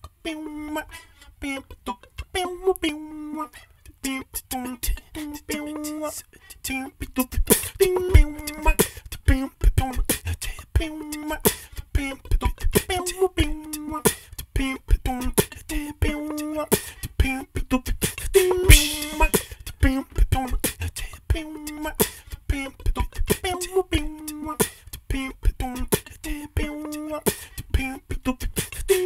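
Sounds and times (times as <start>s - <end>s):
short sung notes: 0.2s - 29.0s
beatboxed percussion: 4.1s - 29.0s.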